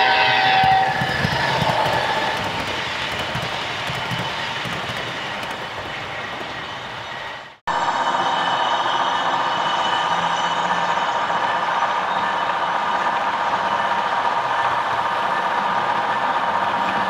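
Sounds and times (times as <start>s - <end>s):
model locomotive high whine: 0.0s - 17.0s
model train rolling hum: 0.0s - 17.0s.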